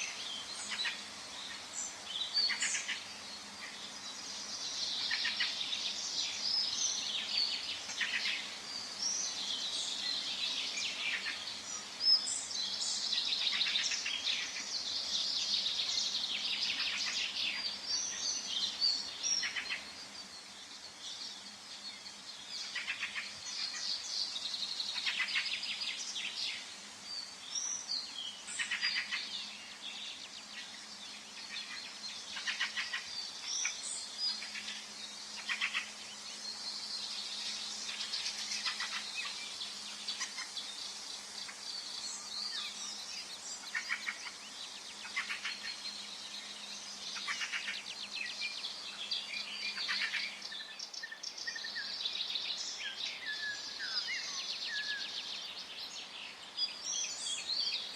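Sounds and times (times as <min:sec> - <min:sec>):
faint steady hiss: 0:00.0 - 0:57.9
songbirds trilling and chirping: 0:00.0 - 0:57.9.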